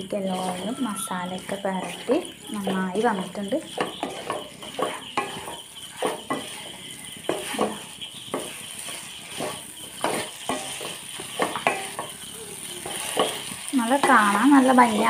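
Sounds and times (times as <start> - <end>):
pan sizzling: 0.0 - 15.0
wooden spatula scraping a pan: 0.0 - 15.0.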